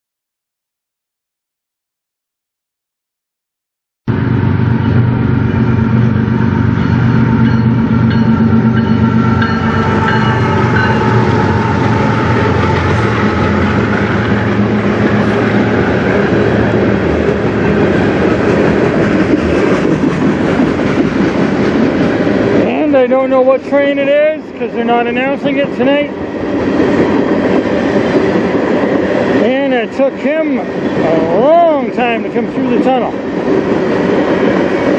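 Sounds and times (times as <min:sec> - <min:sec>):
diesel locomotive engines: 0:04.1 - 0:34.9.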